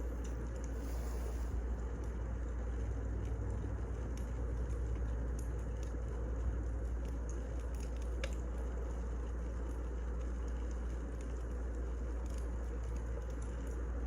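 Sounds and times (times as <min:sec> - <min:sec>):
firewood crackling and popping: 0:01.8 - 0:14.0.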